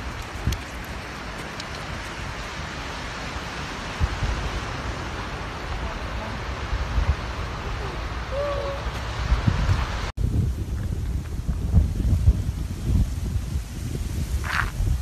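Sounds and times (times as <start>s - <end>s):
low wind buffeting thumps: 0.0s - 8.3s, 8.9s - 15.0s
wind rushing across microphone: 0.0s - 15.0s.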